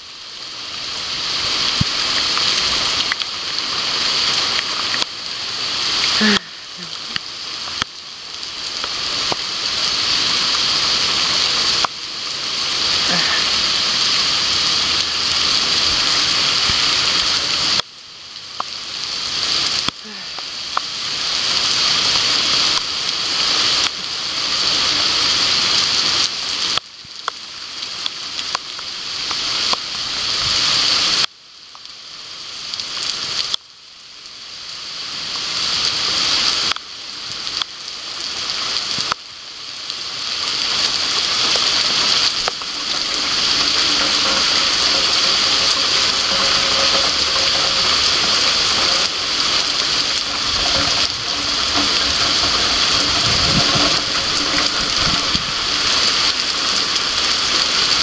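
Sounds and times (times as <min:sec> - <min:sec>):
heavy rain on concrete: 0:00.0 - 0:58.0.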